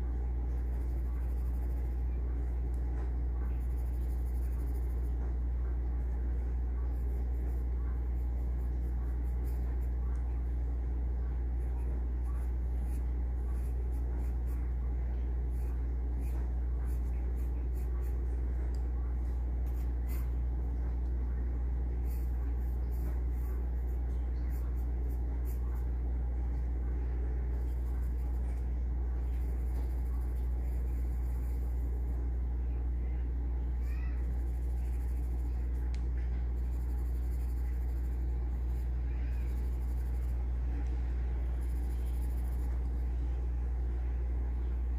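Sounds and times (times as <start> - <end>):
pencil scratching on paper: 0.0 - 21.1, 21.7 - 26.0, 27.4 - 32.4, 34.2 - 40.4, 41.4 - 43.1
low hum: 0.0 - 44.9.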